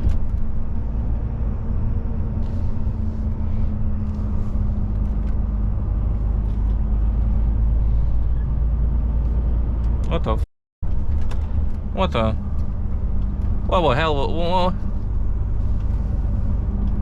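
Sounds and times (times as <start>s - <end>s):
truck engine and tyres rumbling: 0.0s - 17.0s.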